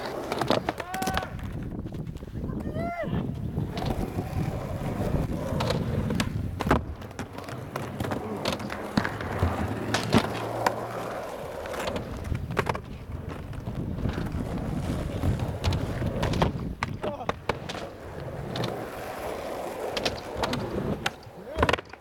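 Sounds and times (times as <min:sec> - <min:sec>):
skateboard clacking on ground: 0:00.0 - 0:22.0
skateboard wheels rolling on asphalt: 0:00.0 - 0:22.0.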